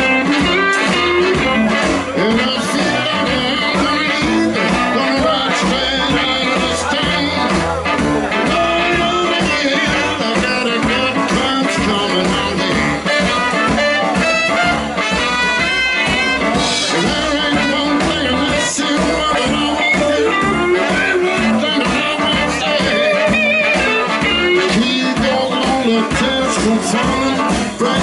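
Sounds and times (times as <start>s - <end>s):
blues band playing: 0.0s - 28.0s
horns: 0.0s - 28.0s.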